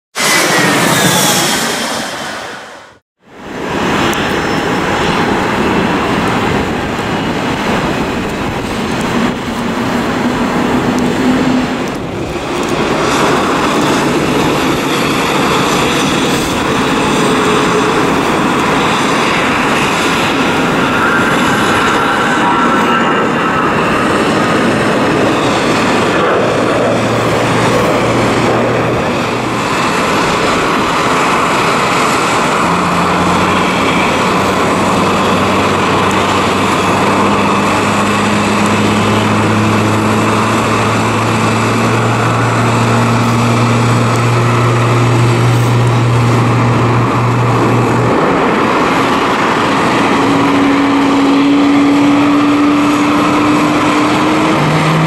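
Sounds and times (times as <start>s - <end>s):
jet turbine rush and whine: 0.1s - 55.0s
low rising hum: 0.2s - 55.0s.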